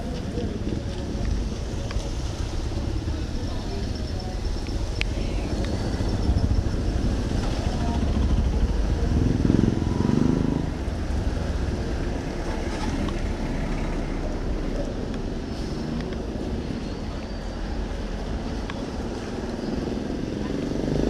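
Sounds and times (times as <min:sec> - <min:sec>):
street noise: 0:00.0 - 0:21.0
vehicles driving past: 0:00.0 - 0:21.0.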